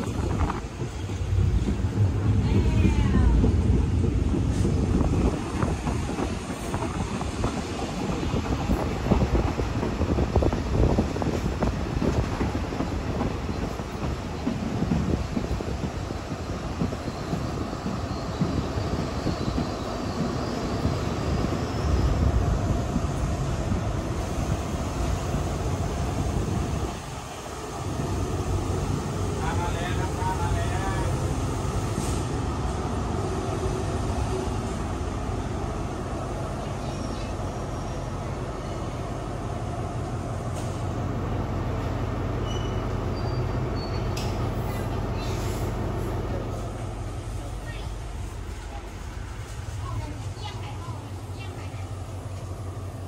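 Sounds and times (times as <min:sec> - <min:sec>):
train rumbling and rushing: 0:00.0 - 0:53.0.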